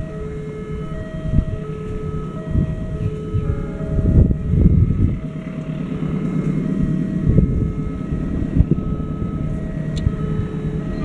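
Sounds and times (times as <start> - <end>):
steady low rumble: 0.0 - 11.0
wind buffeting microphone: 0.0 - 11.0.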